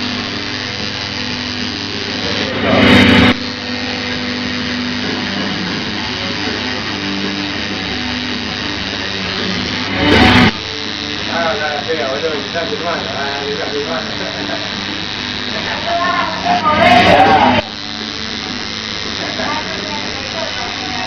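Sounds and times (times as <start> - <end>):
tattoo machine buzzing: 0.0 - 21.0.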